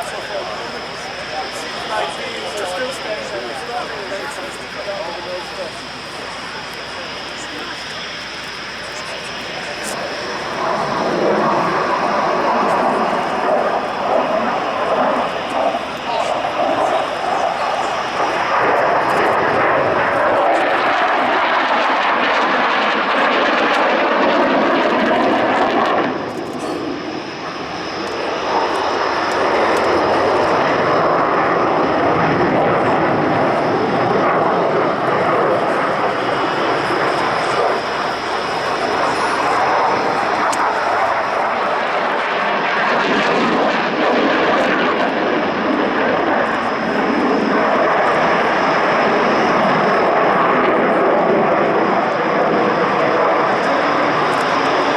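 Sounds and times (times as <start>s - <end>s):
loud jet noise: 0.0s - 54.9s.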